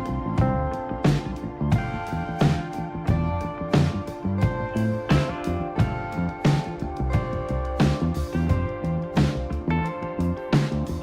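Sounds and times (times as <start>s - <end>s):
regular drum hits: 0.0s - 9.8s.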